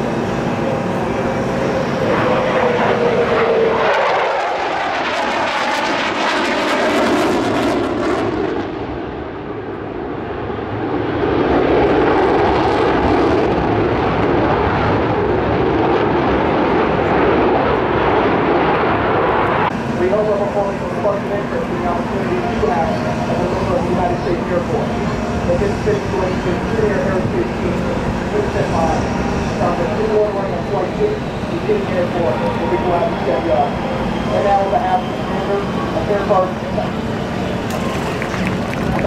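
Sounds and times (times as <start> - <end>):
falling jet whine: 0.0 - 39.0
jet engine noise: 0.0 - 39.0.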